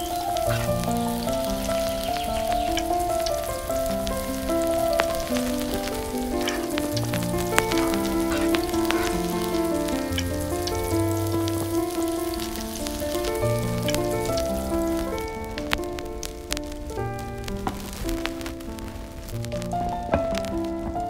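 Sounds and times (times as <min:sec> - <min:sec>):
hot oil sizzling and crackling: 0:00.0 - 0:21.0
slow music with held notes: 0:00.0 - 0:21.0.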